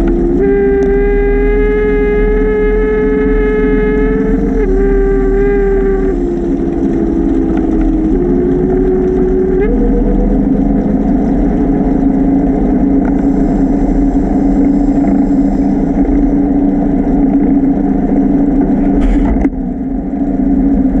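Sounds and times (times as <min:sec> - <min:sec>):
underwater scooter motor humming: 0:00.0 - 0:21.0.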